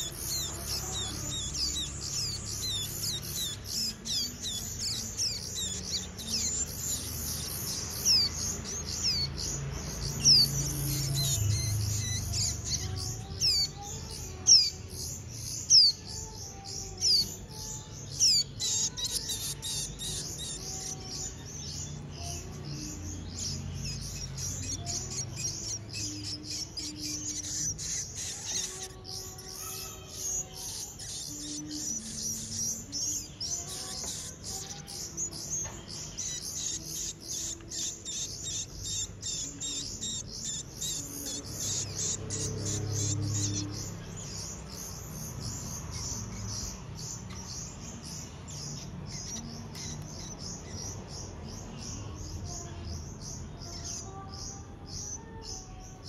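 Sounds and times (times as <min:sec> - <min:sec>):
nestling birds cheeping: 0:00.0 - 0:56.0.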